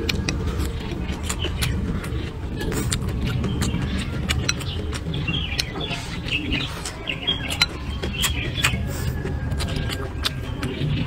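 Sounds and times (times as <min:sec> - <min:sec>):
birds chirping: 0:00.0 - 0:11.0
close chewing with mouth clicks: 0:00.0 - 0:11.0
low rumble: 0:00.0 - 0:11.0.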